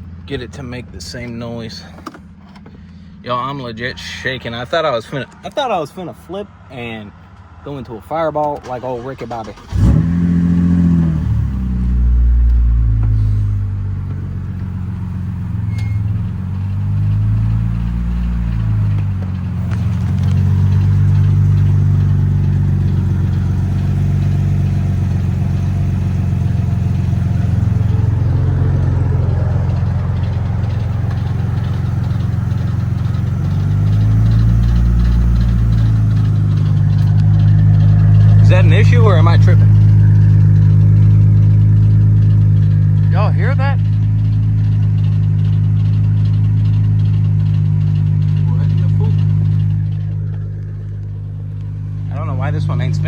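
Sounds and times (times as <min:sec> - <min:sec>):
car engine revving: 0:07.7 - 0:53.0.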